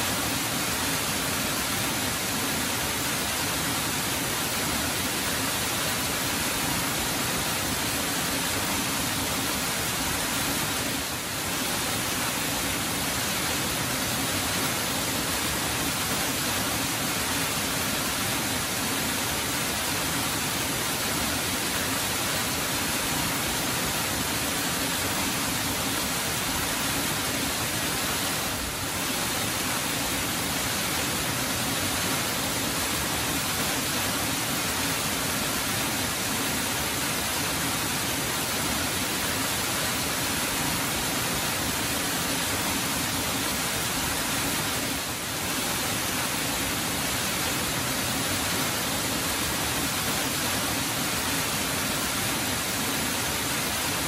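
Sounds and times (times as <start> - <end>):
waterfall over rocks: 0.0 - 54.0.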